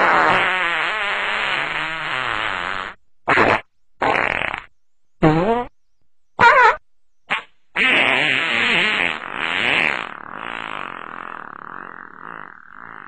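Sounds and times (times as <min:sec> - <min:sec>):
fart sound effects: 0:00.0 - 0:05.7, 0:06.4 - 0:13.0.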